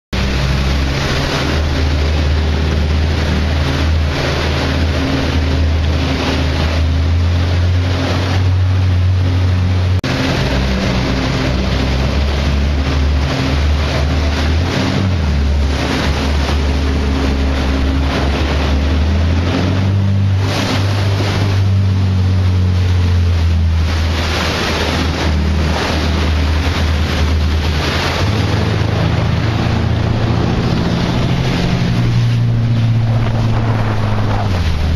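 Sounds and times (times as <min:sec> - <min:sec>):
marine engine droning: 0:00.1 - 0:34.9
rushing water spray: 0:00.2 - 0:34.9
wind on microphone: 0:00.2 - 0:34.9.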